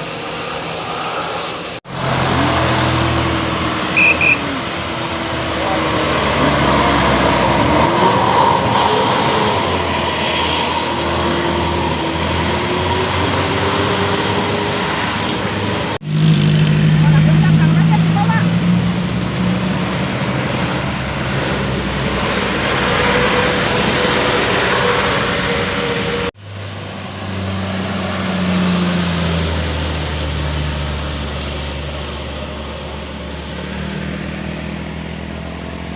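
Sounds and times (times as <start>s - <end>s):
buses driving past: 0.0s - 35.9s
large vehicle engine hum: 0.0s - 35.9s
traffic noise with steady tone: 0.0s - 35.9s.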